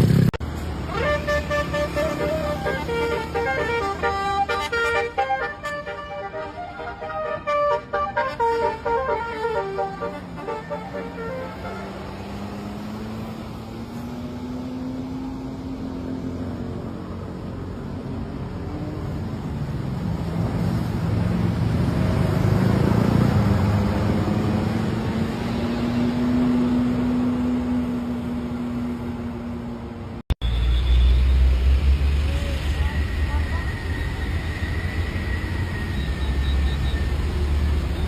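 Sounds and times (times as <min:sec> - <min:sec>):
bus driving past: 0:00.0 - 0:38.0.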